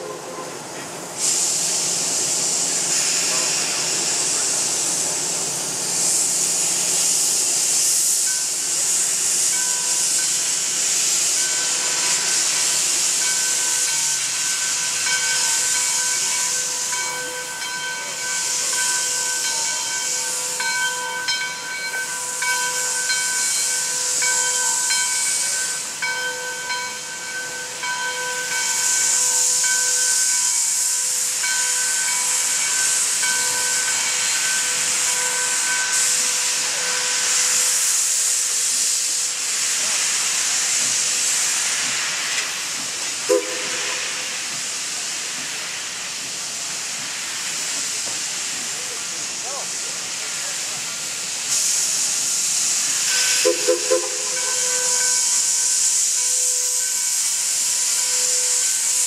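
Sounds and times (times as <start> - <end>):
locomotive steam hissing: 0.0 - 59.0.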